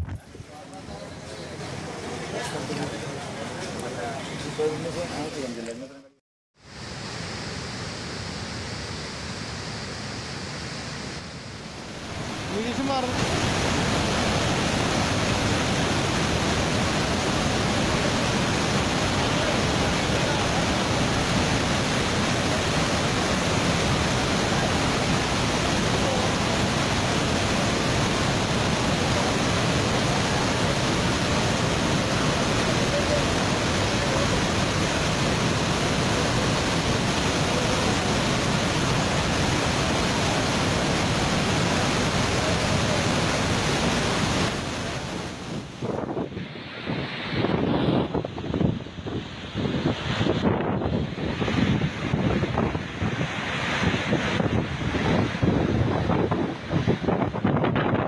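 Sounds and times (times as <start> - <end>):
river in flood rushing: 0.0 - 5.8, 6.6 - 58.0.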